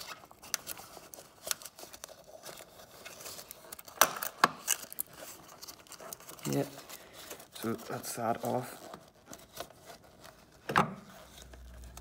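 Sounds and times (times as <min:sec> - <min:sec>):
electrical tape crinkling: 0:00.0 - 0:12.0.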